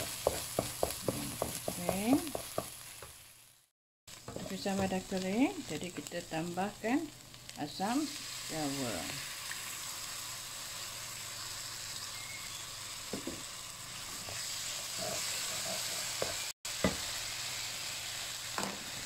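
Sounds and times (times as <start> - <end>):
spice paste sizzling in frying pan: 0.0 - 19.0.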